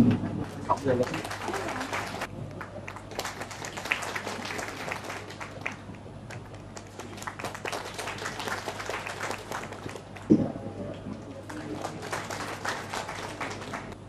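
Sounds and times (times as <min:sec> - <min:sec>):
people clapping: 0:00.0 - 0:14.0.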